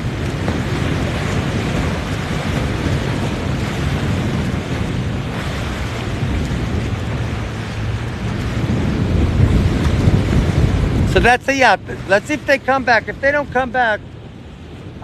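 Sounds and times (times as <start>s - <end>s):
waves and surf: 0.0s - 15.0s
wind buffeting microphone: 0.0s - 15.0s.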